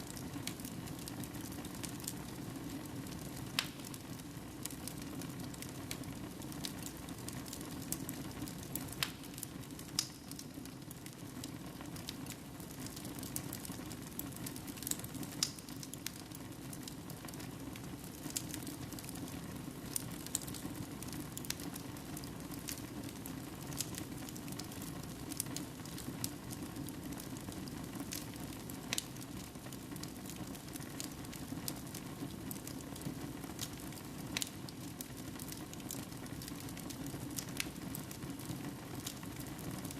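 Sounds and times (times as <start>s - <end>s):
crackles and pops of burning logs: 0.0s - 39.9s.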